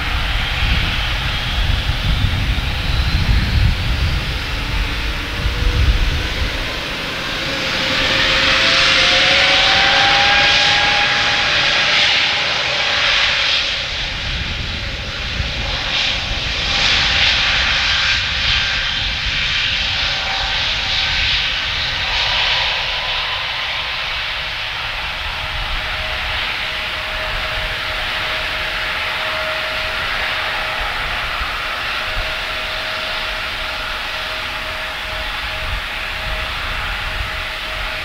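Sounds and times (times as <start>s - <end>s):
jet engines whining and hissing: 0.0s - 38.0s.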